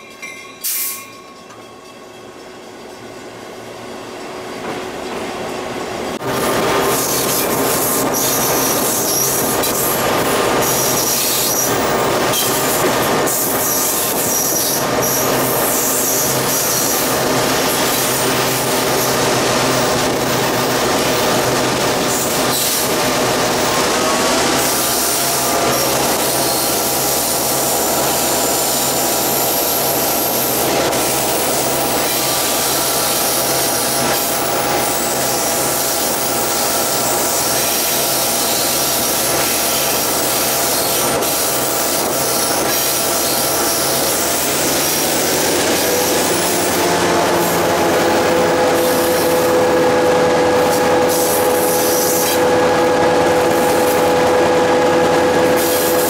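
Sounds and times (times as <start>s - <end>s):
wheels squealing on rails: 0.0s - 5.1s, 6.2s - 56.0s
train running on track: 0.0s - 56.0s.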